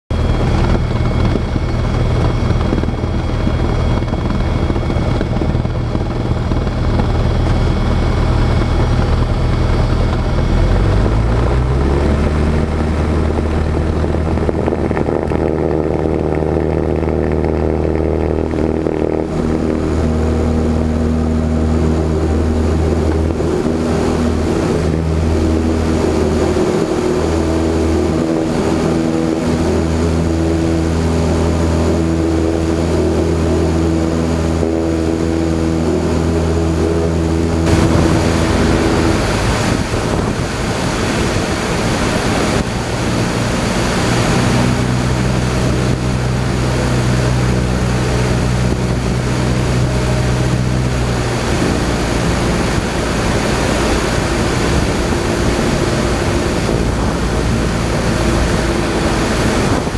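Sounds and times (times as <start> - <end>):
propeller plane engine: 0.0 - 59.9.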